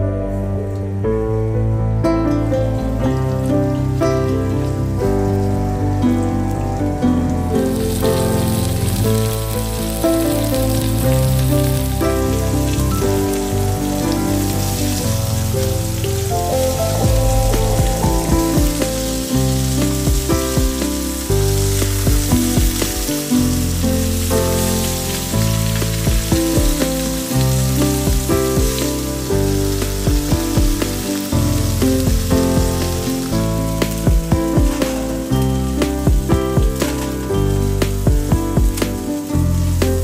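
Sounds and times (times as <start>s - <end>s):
background music: 0.0s - 40.0s
chicken sizzling in oil: 2.8s - 40.0s.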